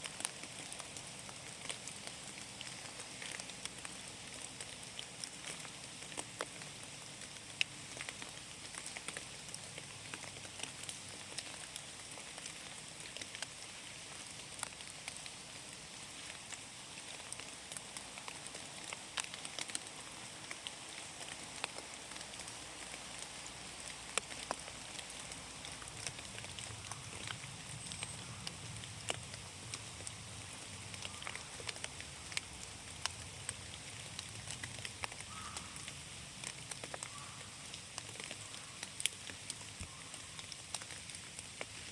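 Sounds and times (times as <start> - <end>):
rain hissing in a forest: 0.0 - 41.9
sharp raindrops: 0.0 - 41.9.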